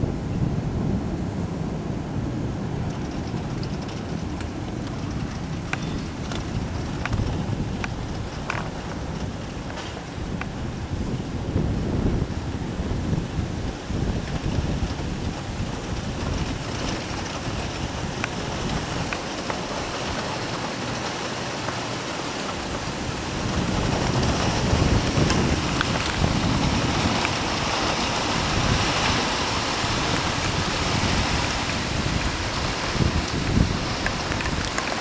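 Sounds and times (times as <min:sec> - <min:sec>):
gusting wind buffeting microphone: 0:00.0 - 0:35.0
heavy rain: 0:00.0 - 0:35.0.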